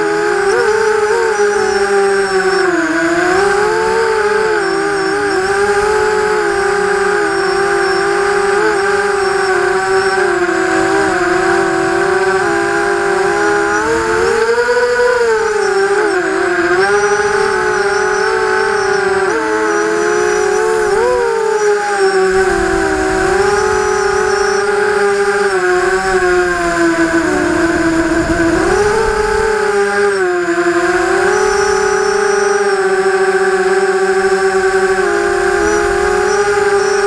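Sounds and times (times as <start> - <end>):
quadcopter motors whining: 0.0 - 37.0.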